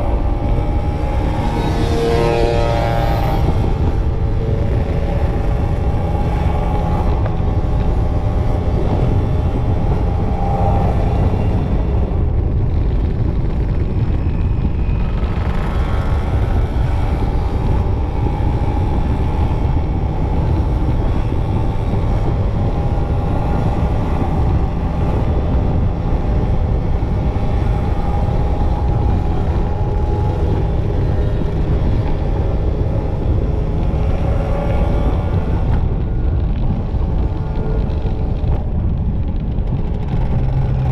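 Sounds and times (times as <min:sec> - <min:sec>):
two-stroke motorcycle engines: 0:00.0 - 0:40.9
wind rumble on microphone: 0:00.0 - 0:40.9.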